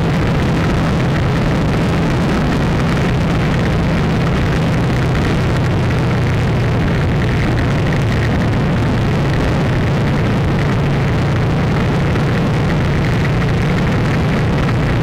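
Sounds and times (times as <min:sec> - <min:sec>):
steady loud rumble with hiss: 0:00.0 - 0:15.0.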